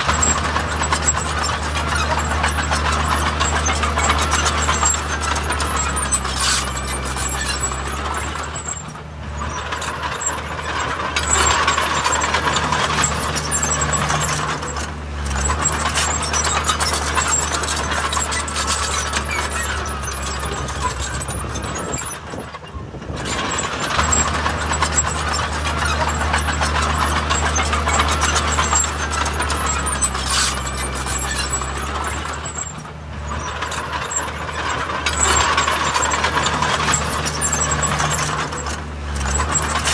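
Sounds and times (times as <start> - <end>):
diesel engine drone: 0.0 - 39.9
mechanical clatter: 0.0 - 39.9.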